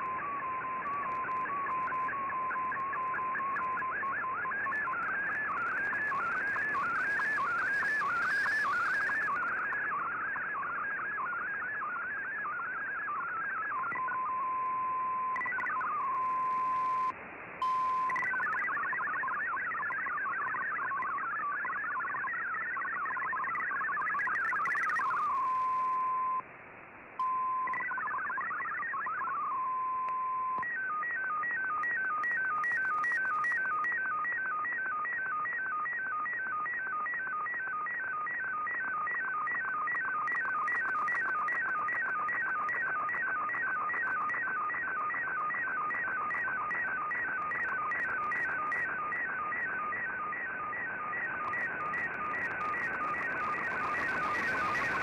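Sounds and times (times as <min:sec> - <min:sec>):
warbling data tones: 0:00.0 - 0:11.4, 0:12.6 - 0:26.4, 0:27.2 - 0:55.0.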